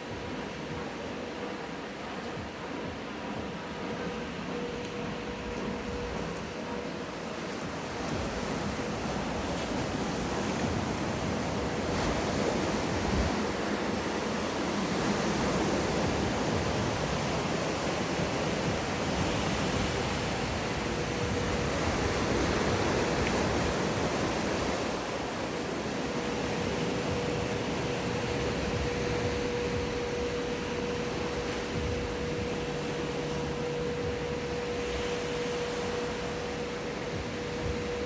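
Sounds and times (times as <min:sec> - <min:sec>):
faint steady hum: 0:00.0 - 0:38.0
rushing water and surf: 0:00.0 - 0:38.0.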